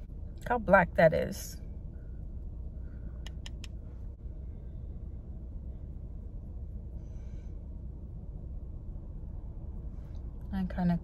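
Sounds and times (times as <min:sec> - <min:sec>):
car interior hum: 0:00.0 - 0:11.0.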